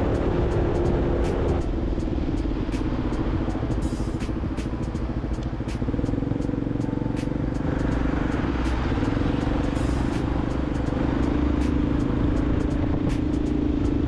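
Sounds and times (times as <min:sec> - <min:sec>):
truck engine running: 0:00.0 - 0:14.0
sharp ticks: 0:00.1 - 0:14.0.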